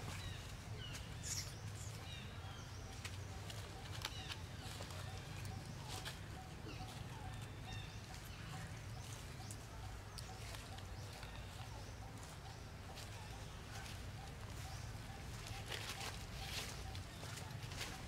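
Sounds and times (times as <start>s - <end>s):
dry leaves rustling: 0.0s - 18.0s.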